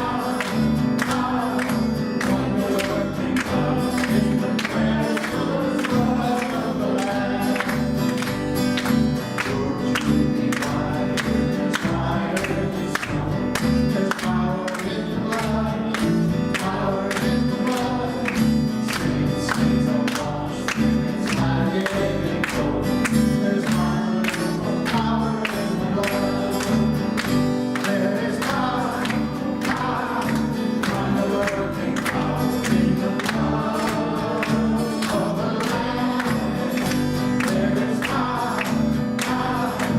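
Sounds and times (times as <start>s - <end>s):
band with voices singing worship song: 0.0s - 39.9s.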